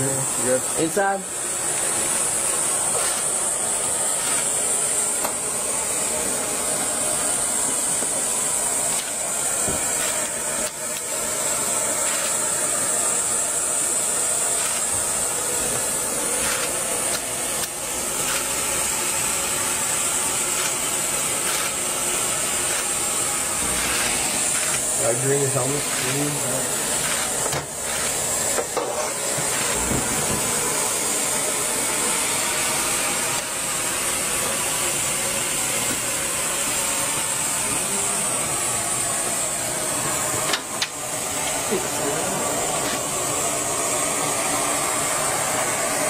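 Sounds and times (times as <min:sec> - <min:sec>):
high-pitched hiss of rushing air: 0:00.0 - 0:46.0.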